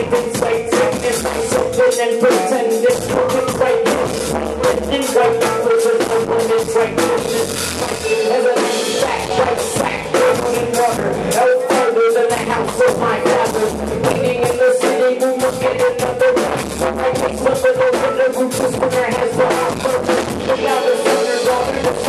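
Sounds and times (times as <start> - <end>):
drums hitting: 0.0 - 22.0
live band playing loud: 0.0 - 22.0
man singing or rapping: 0.0 - 22.0.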